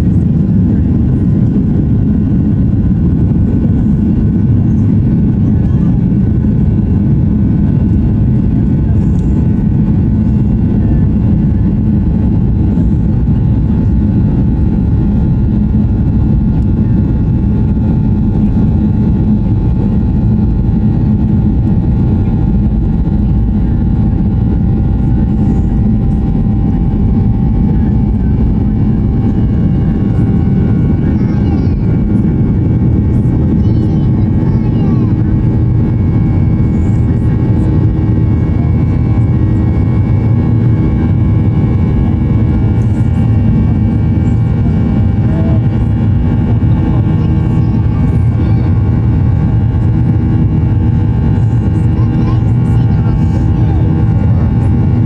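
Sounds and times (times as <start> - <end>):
jet engines at takeoff thrust: 0.0 - 55.0.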